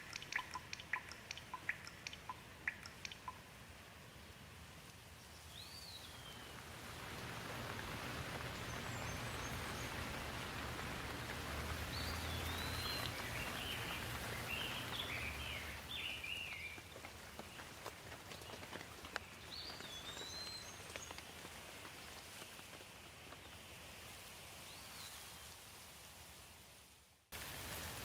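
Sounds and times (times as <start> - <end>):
rain falling on leaves: 0.0 - 28.0.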